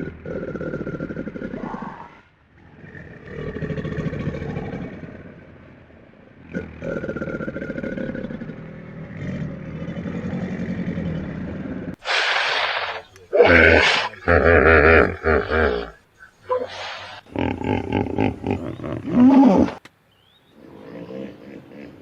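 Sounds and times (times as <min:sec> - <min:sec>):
large animal growling: 0:00.0 - 0:12.0, 0:13.3 - 0:19.8.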